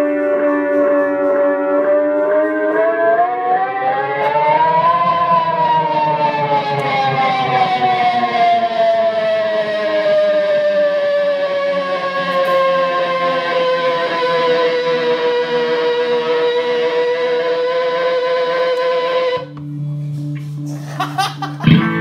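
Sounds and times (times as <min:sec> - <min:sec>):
electric guitar notes: 0:00.0 - 0:22.0.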